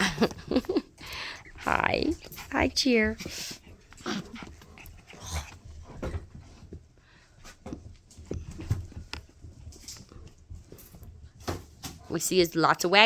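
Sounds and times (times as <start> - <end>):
puppy sounds: 0.0 - 11.0.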